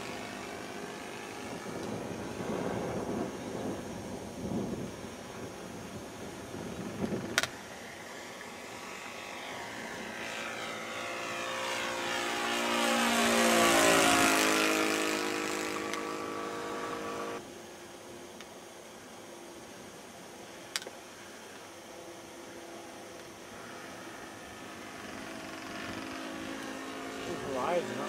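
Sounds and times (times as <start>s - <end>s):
propeller airplane flying past: 0.0s - 17.6s, 21.4s - 28.0s.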